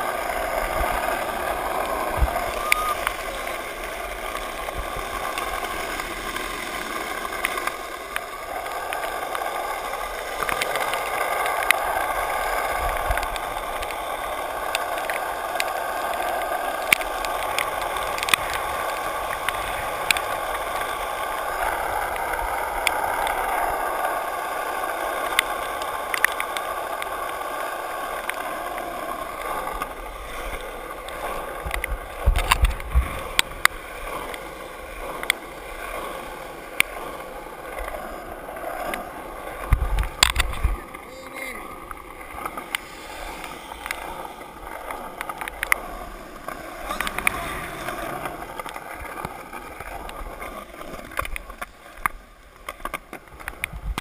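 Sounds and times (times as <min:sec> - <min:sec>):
skateboard wheels rolling on wet asphalt: 0:00.0 - 0:54.0.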